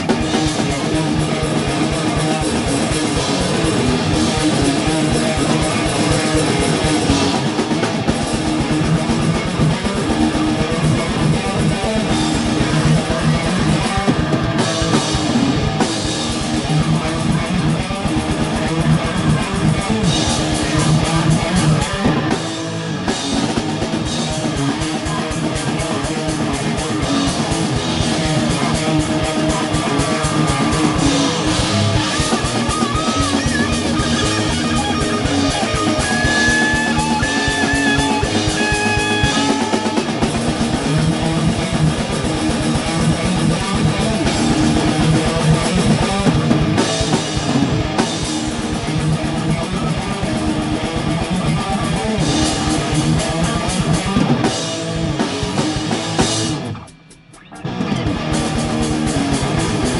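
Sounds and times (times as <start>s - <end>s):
amplified electric guitars: 0.0s - 59.9s
drum kit: 0.0s - 59.9s.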